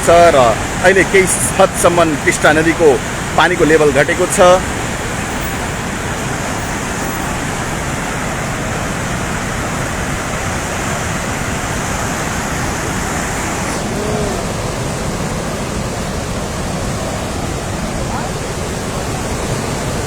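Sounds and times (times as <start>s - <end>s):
rushing floodwater: 0.0s - 20.0s.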